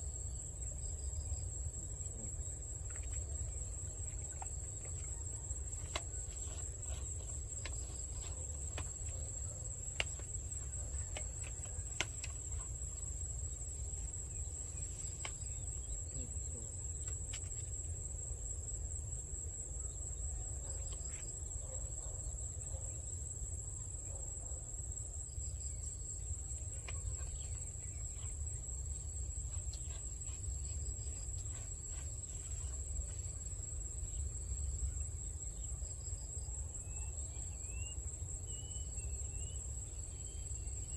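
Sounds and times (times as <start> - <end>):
insect trill: 0.0 - 40.9.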